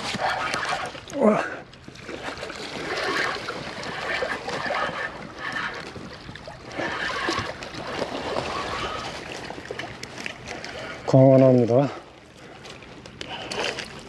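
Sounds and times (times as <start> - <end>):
seawater lapping over rocks: 0.0 - 14.0.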